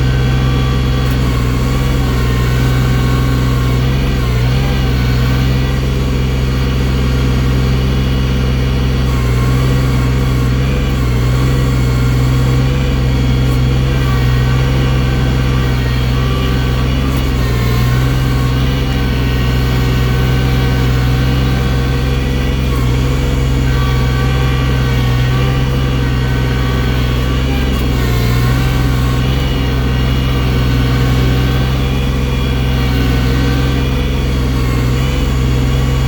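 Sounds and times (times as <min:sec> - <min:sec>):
loader engine running: 0:00.0 - 0:36.0.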